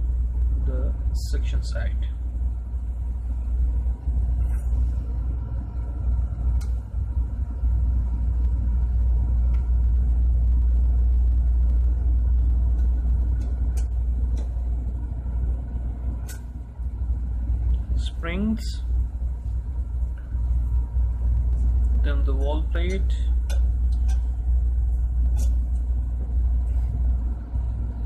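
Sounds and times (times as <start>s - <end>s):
faint hum: 0.0s - 28.0s
machinery rumbling: 0.0s - 28.0s.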